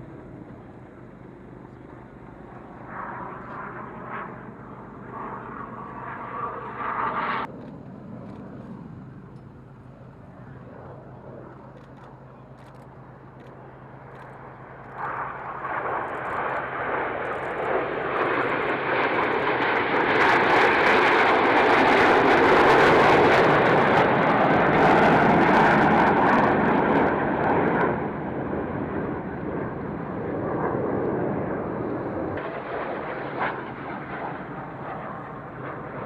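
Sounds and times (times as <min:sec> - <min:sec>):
aircraft engines: 0:00.0 - 0:36.0.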